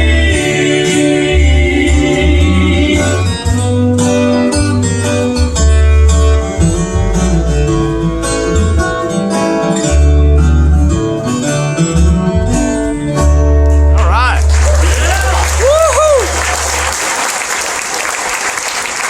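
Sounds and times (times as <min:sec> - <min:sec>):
acoustic guitar and plucked strings: 0:00.0 - 0:15.5
bass line: 0:00.0 - 0:17.1.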